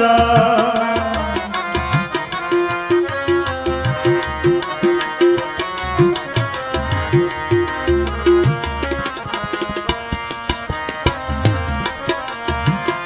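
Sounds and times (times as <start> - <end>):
held melody notes: 0.0 - 13.0
tabla rhythm: 0.0 - 13.0.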